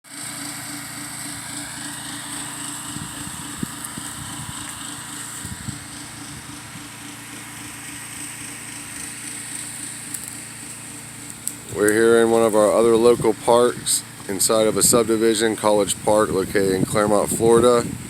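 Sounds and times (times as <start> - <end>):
pressure washer engine hum: 0.1 - 18.0.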